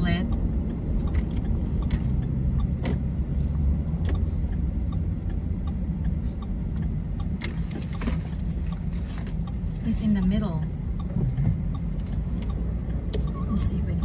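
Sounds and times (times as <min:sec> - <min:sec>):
car cabin rumble while driving: 0:00.0 - 0:14.0.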